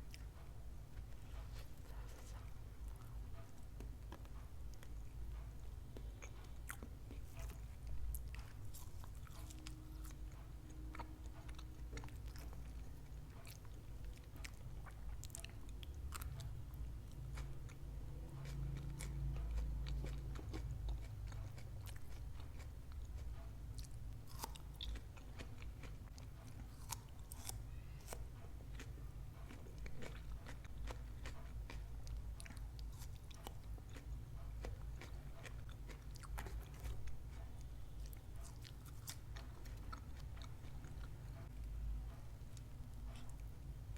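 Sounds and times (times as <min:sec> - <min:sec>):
chewing with crisp crunches: 0:00.0 - 0:43.9
low steady rumble: 0:00.0 - 0:43.9.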